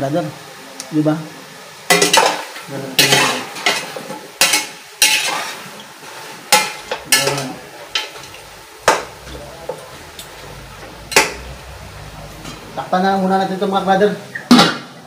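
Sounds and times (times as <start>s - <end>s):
chicken sizzling: 0.0s - 15.0s.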